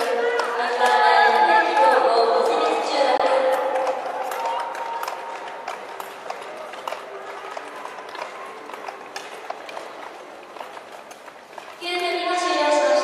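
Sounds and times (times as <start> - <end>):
steady noisy background: 0.0 - 13.0.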